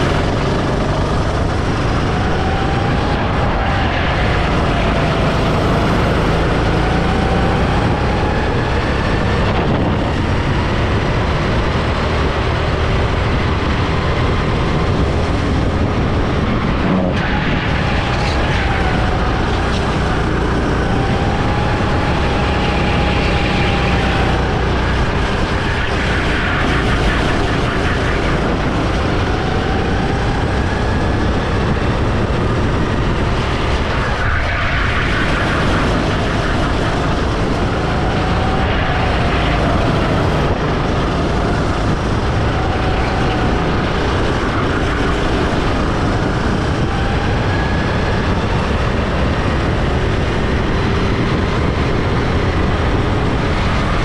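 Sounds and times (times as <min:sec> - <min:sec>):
go-kart engine racing: 0:00.0 - 0:54.0
wind rushing on microphone: 0:00.0 - 0:54.0.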